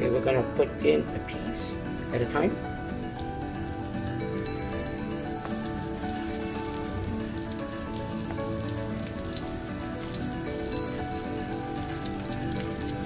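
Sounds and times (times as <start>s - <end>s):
background music with held notes: 0.0s - 13.0s
frying slices sizzling in oil: 1.3s - 13.0s.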